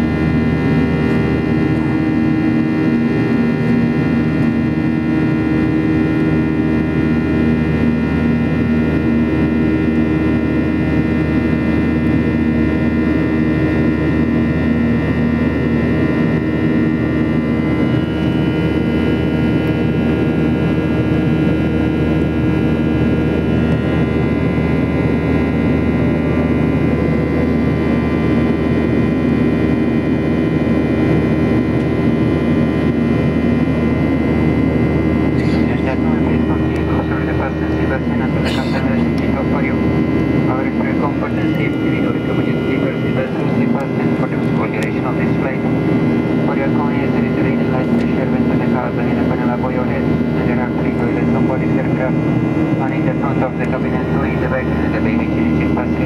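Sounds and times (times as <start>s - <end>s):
jet engine and airflow drone: 0.0s - 56.0s
steady whining tones: 0.0s - 56.0s.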